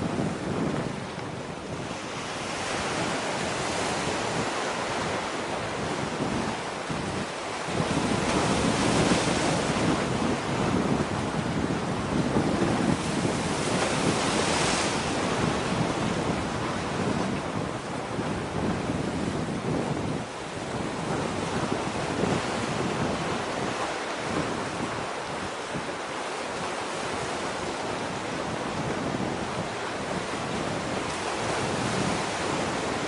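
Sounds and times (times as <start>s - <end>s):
waves washing at shore: 0.0s - 33.0s
wind on microphone: 0.0s - 33.0s.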